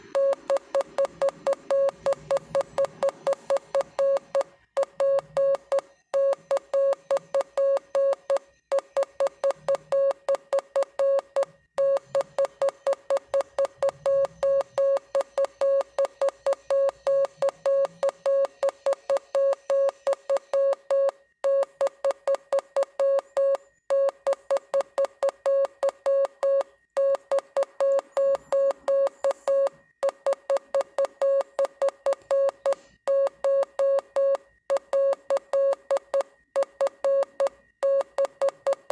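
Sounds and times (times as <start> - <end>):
morse code beeping: 0.0 - 38.9.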